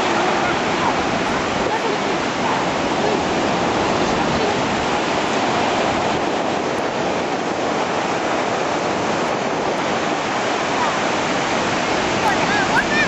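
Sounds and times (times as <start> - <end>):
storm surf waves breaking: 0.0 - 13.0.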